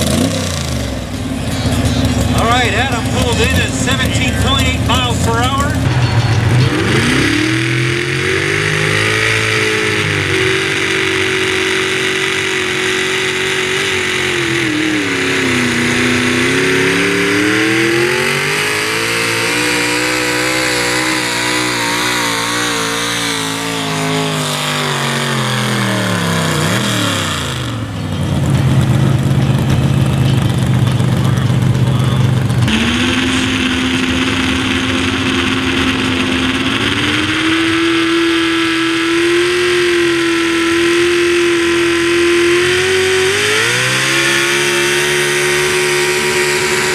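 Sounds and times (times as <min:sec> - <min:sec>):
truck engine at full throttle: 0:00.0 - 0:46.9.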